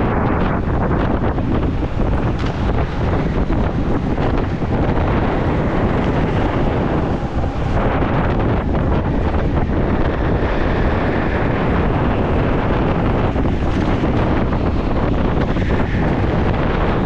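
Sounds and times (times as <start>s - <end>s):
go-kart running: 0.0s - 17.0s
wind buffeting microphone: 0.0s - 17.0s.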